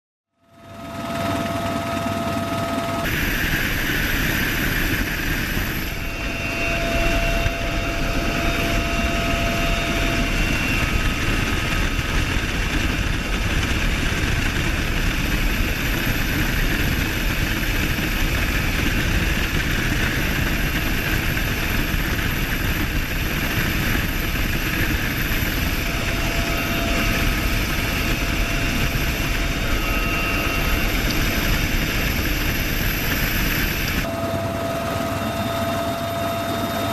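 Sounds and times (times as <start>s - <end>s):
helicopter turbine whine: 0.3s - 36.9s
helicopter rotor beating: 0.5s - 36.9s.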